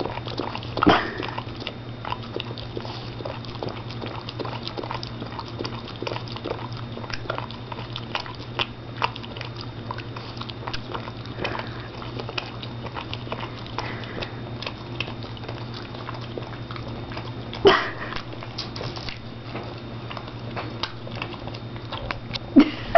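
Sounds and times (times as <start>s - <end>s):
dog licking and smacking lips: 0.0s - 22.6s.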